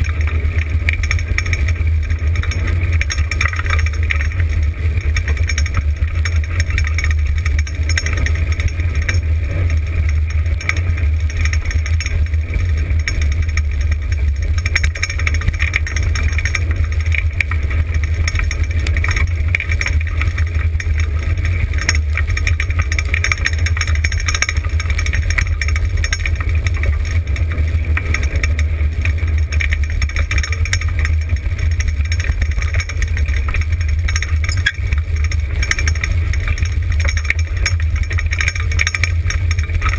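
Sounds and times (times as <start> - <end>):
rig rumbling and rattling on gravel: 0.0 - 39.9.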